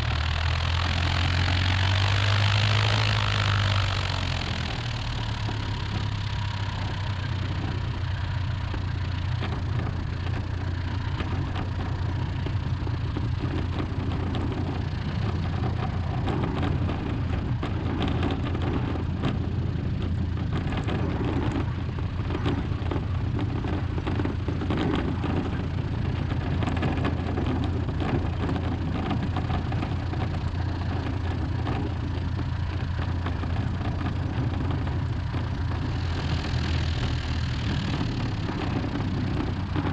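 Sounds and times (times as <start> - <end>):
light aircraft engine droning: 0.0 - 39.9
light ticks and rattles: 4.7 - 39.9.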